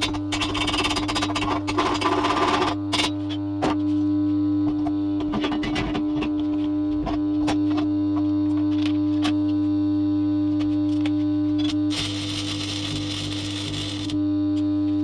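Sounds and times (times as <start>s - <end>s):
welder transformer humming: 0.0s - 15.0s.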